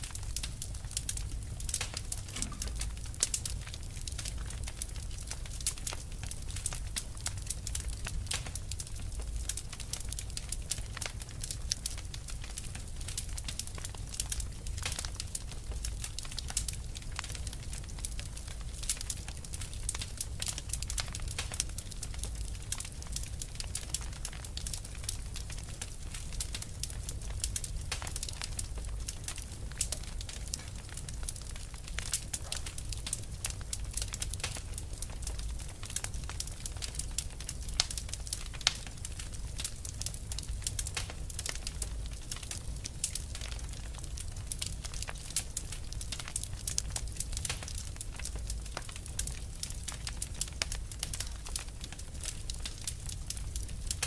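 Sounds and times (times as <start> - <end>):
fire crackling and popping: 0.0 - 54.0
low rumble of flame: 0.0 - 54.0.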